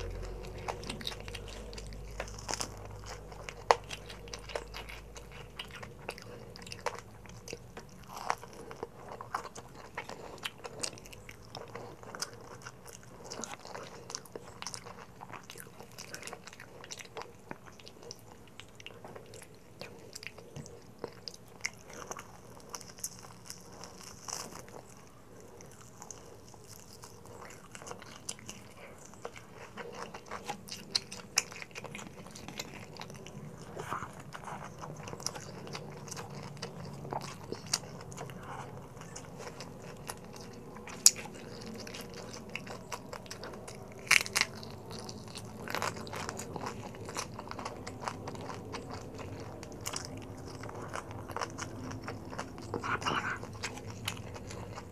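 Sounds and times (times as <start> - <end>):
chewing crispy fried pork: 0.0 - 54.9.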